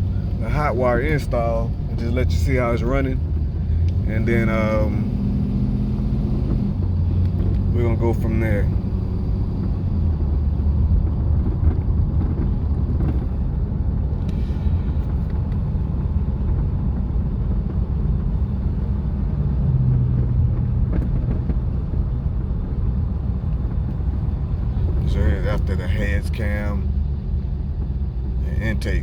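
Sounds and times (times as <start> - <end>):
car engine rumbling while driving: 0.0 - 29.0.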